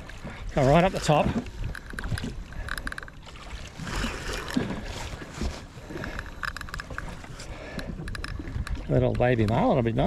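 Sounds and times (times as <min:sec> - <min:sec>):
wind and water noise: 0:00.0 - 0:10.0.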